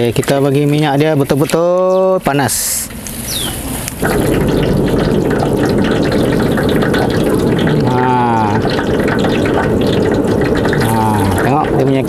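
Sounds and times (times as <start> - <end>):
gas burner flame rushing: 2.2 - 12.0.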